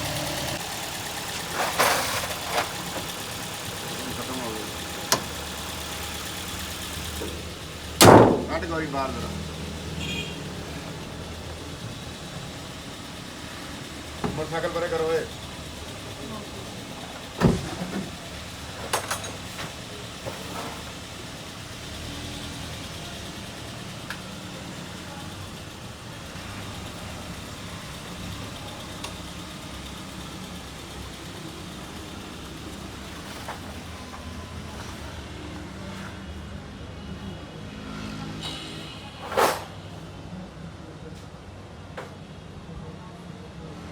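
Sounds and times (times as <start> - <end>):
engine idling: 0.0 - 36.1.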